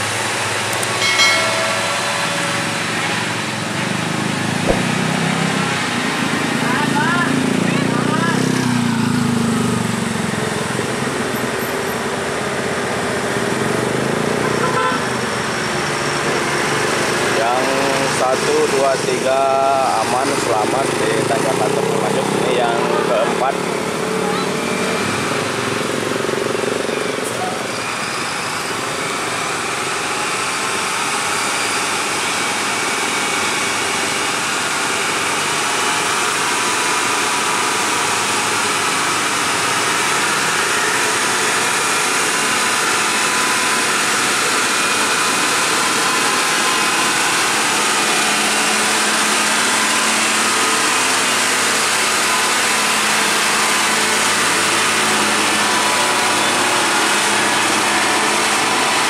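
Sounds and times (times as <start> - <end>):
truck diesel engine pulling uphill: 0.0 - 59.0.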